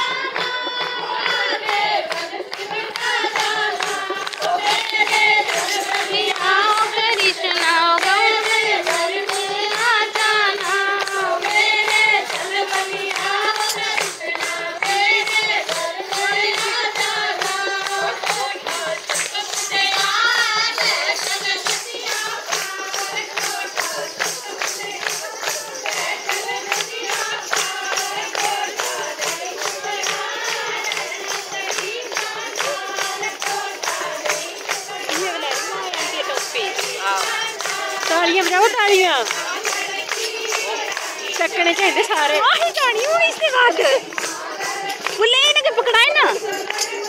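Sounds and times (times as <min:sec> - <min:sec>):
hand claps beat: 0:00.0 - 0:47.0
women singing folk song: 0:00.0 - 0:47.0.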